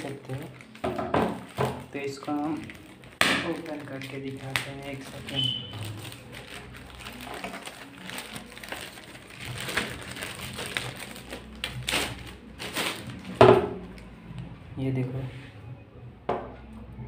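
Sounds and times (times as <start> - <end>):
plastic wrapping crinkling: 0.0 - 14.1.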